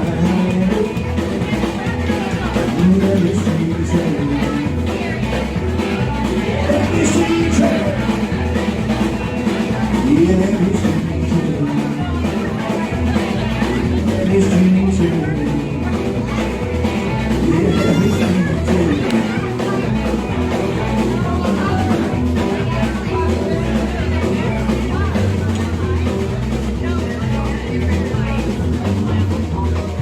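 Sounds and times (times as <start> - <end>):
bass line: 0.0 - 30.0
drum kit with cymbals: 0.0 - 30.0
electric guitar lead: 0.0 - 30.0.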